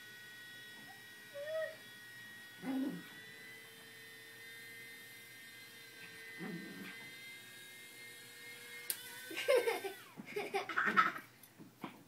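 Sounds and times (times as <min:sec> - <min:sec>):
electric toy whine: 0:00.0 - 0:11.1.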